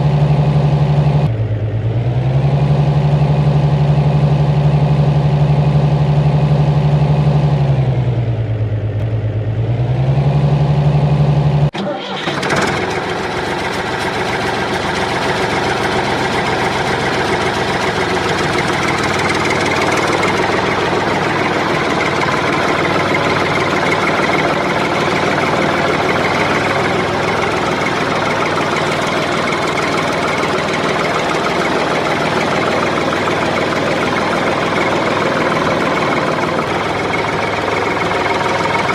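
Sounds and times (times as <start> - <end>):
engine humming: 0.0 - 38.9.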